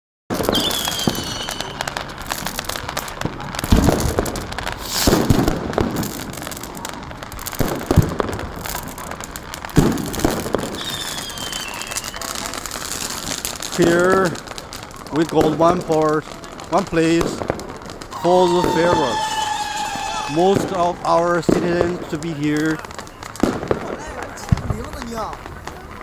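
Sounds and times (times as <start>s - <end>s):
falling firework whistle: 0.3s - 3.1s, 3.7s - 9.2s, 9.8s - 14.1s, 17.3s - 25.9s
firecrackers crackling: 0.3s - 26.0s
fireworks bangs: 0.3s - 26.0s.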